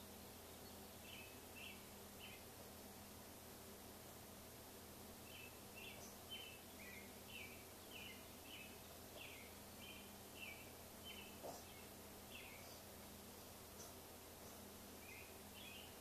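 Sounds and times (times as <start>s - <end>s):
faint bird chirping: 0.0s - 16.0s
low room hum: 0.0s - 16.0s.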